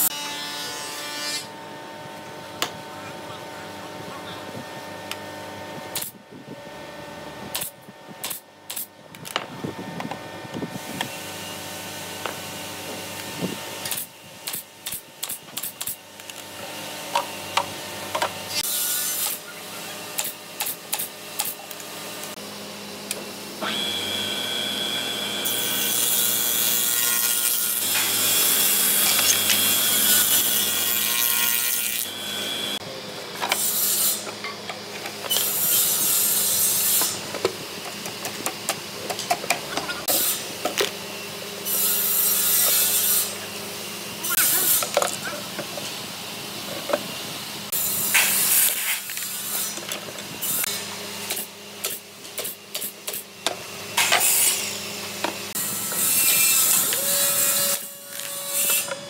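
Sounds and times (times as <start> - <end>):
wood cutting noise: 0.0 - 59.0.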